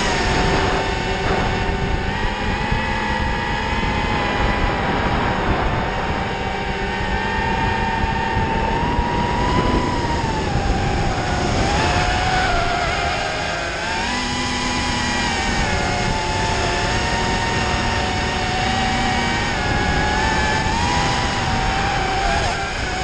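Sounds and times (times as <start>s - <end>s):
quadcopter motors whining: 0.0s - 23.0s
wind buffeting microphone: 0.0s - 23.0s.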